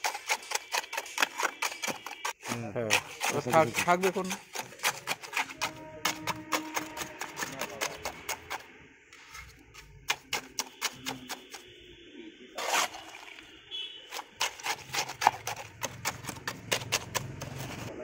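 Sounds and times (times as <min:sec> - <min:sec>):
trowel tapping mortar: 0:00.0 - 0:08.6, 0:09.2 - 0:11.6, 0:14.1 - 0:17.9.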